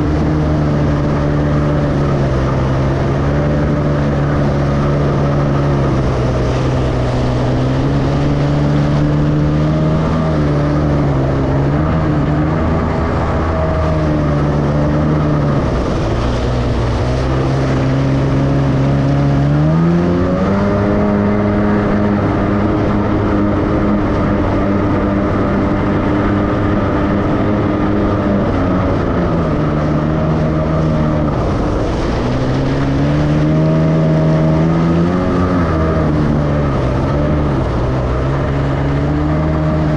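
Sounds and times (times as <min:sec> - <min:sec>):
jet ski engine revving: 0:00.0 - 0:39.9.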